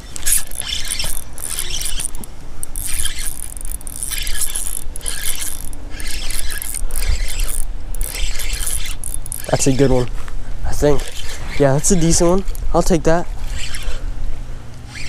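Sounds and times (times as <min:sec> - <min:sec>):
fishing reel whirring and clicking: 0:00.0 - 0:14.0.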